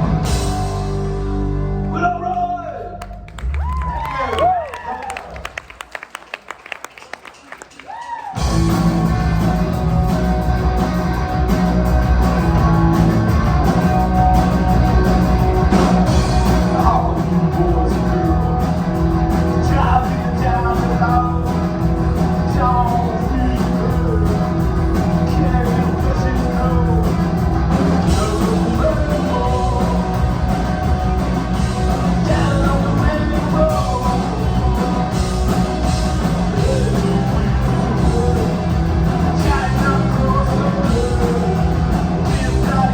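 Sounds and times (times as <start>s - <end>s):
rock song with singing and guitar: 0.0s - 2.5s, 8.4s - 42.9s.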